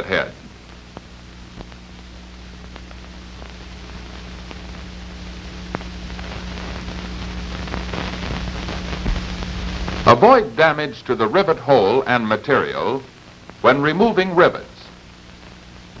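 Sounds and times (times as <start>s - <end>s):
film soundtrack hiss: 0.0s - 16.0s
low mains hum: 0.0s - 16.0s.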